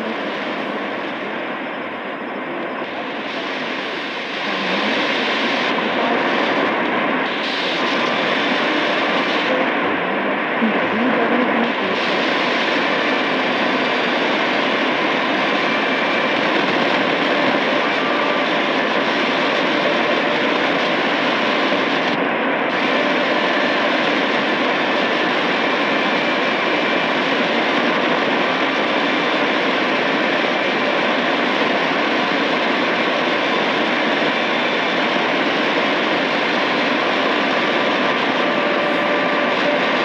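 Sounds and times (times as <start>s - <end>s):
shortwave radio static hiss: 0.0s - 40.0s.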